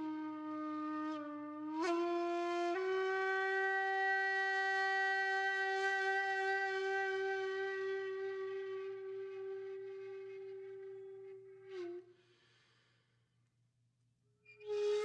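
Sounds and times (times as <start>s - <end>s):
wind instrument long held notes: 0.0s - 12.2s, 14.6s - 15.0s.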